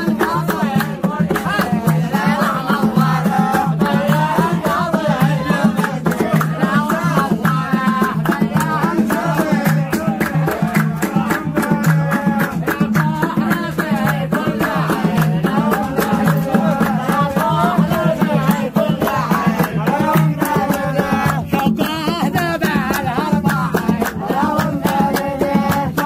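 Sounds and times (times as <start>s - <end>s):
man singing: 0.0s - 26.0s
steady percussive beat: 0.0s - 26.0s.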